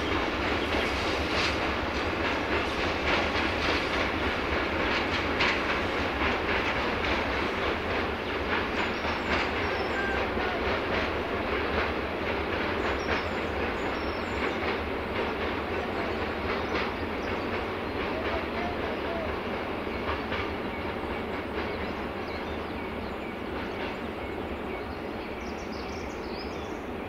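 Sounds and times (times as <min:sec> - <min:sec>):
train rumble: 0:00.0 - 0:27.0
train wheels clicking over rail joints: 0:00.0 - 0:27.0.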